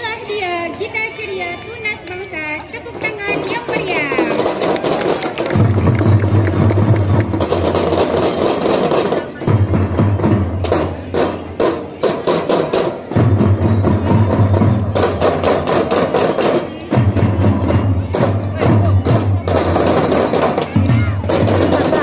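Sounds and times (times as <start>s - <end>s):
drums struck rapidly in rhythm: 2.9s - 22.0s.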